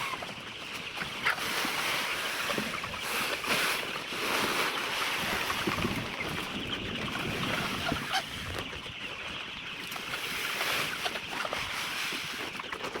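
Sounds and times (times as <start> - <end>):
hens clucking hubbub: 0.0 - 13.0.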